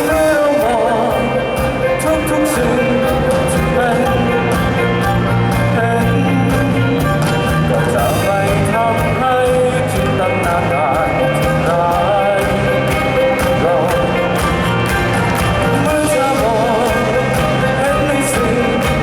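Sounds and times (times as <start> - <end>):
band playing a song: 0.0 - 19.0
person singing: 0.0 - 19.0
steady drum beat: 0.0 - 19.0.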